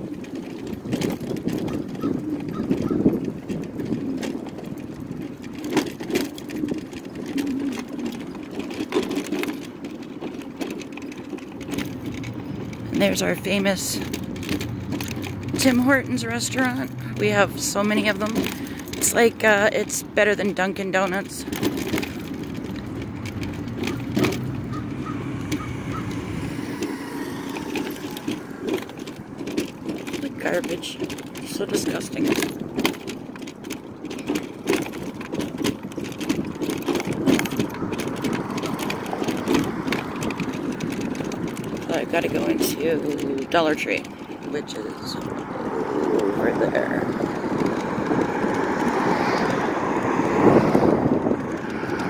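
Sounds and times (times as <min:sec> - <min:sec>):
rattles and knocks from bumps: 0:00.0 - 0:52.0
road traffic rumble: 0:00.0 - 0:52.0
scooter rolling on asphalt: 0:00.0 - 0:52.0.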